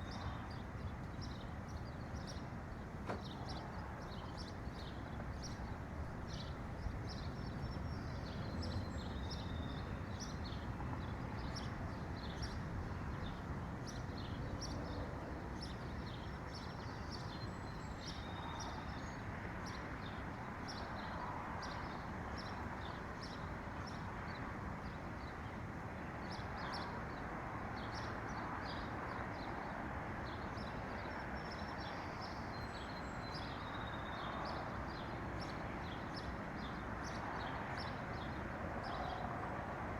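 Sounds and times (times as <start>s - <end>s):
small songbirds chirping: 0.0s - 25.6s, 26.2s - 39.4s.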